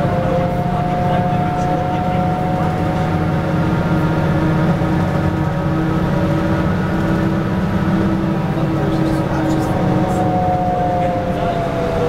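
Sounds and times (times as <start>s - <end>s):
bus engine and road drone: 0.0s - 12.0s
faint whine: 0.0s - 12.0s.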